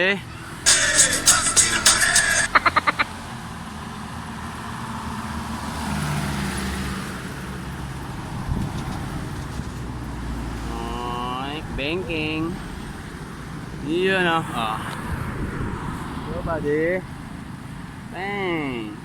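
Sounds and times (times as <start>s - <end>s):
vehicle passing: 0.2s - 10.9s, 11.6s - 18.1s.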